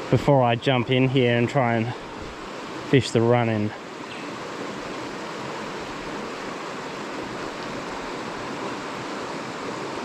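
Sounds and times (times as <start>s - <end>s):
flowing river water: 0.0s - 10.0s.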